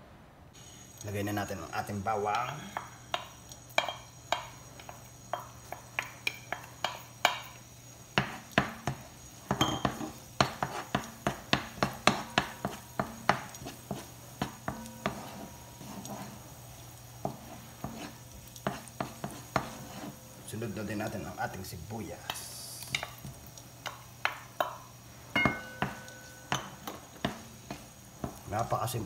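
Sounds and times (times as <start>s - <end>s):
wooden spoon tapping frying pan: 2.0s - 20.2s, 22.2s - 28.7s.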